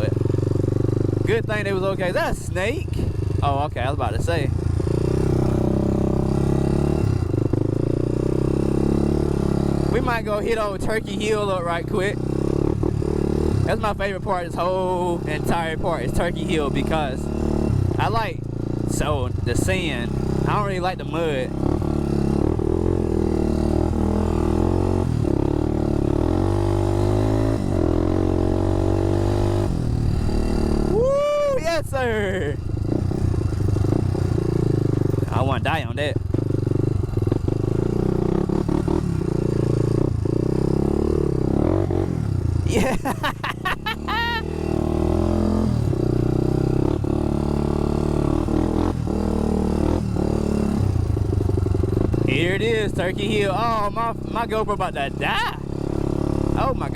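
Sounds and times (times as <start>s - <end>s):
dirt bike engine under throttle: 0.0s - 56.9s.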